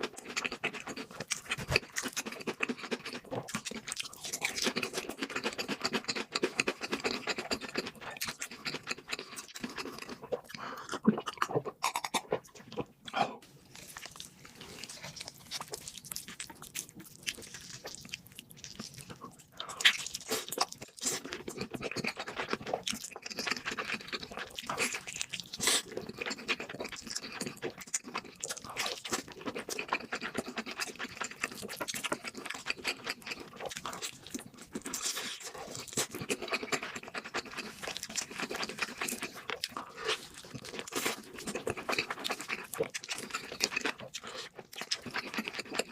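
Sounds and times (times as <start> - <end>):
crunching fried food: 0.0 - 12.9, 13.6 - 45.9
wet chewing: 0.0 - 45.9.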